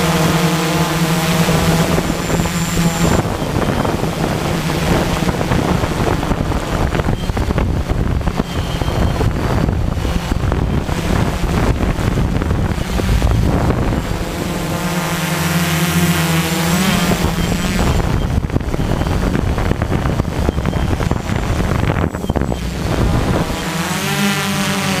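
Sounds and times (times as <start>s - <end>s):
drone motors humming: 0.0s - 25.0s
wind noise on microphone: 0.0s - 25.0s.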